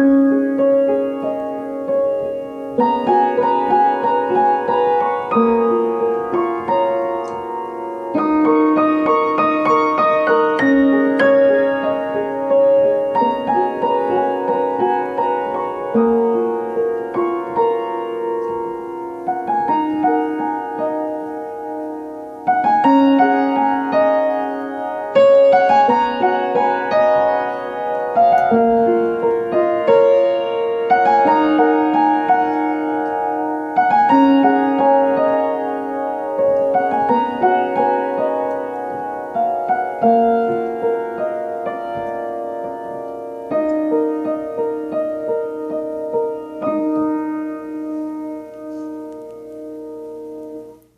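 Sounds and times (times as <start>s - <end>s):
slow solo piano piece: 0.0s - 50.9s.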